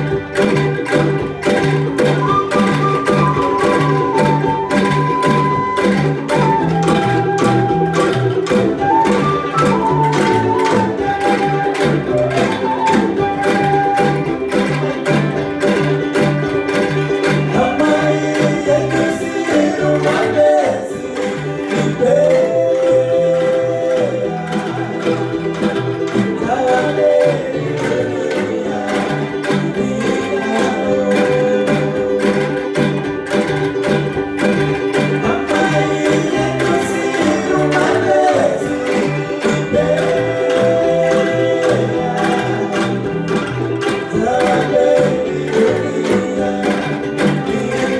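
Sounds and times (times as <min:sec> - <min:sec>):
angklung ensemble playing: 0:00.0 - 0:47.9.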